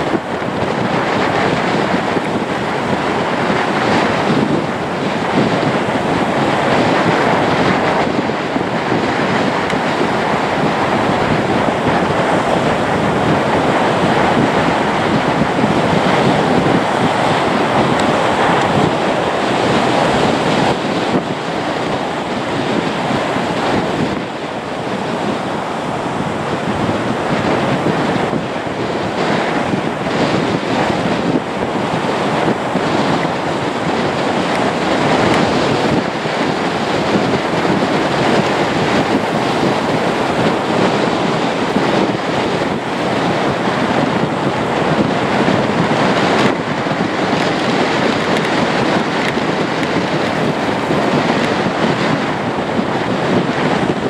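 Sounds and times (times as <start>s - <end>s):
turboprop engines roaring: 0.0s - 54.0s
wind on microphone: 0.0s - 54.0s.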